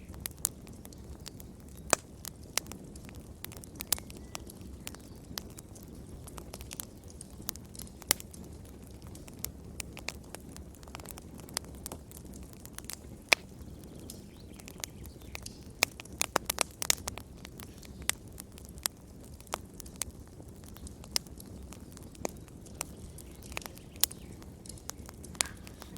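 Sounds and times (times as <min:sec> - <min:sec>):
fire popping: 0:00.0 - 0:25.9
low rumble of flames: 0:00.0 - 0:25.9.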